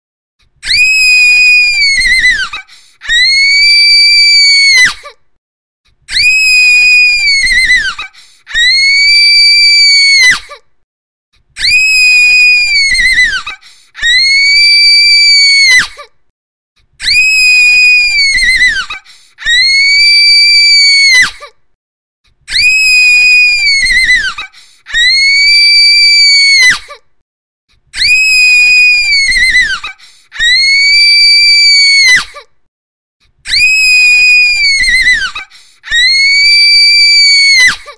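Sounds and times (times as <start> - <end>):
girl screaming: 0.6 - 5.2, 6.1 - 10.6, 11.6 - 16.1, 17.0 - 21.5, 22.5 - 27.0, 28.0 - 32.5, 33.5 - 37.9.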